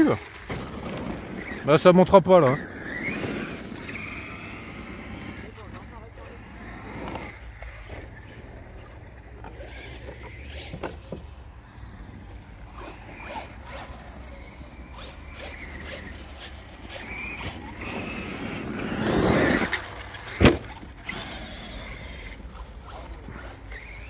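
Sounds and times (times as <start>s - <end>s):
faint motor whine: 0.0s - 24.0s
rc truck driving on gravel: 0.0s - 24.0s.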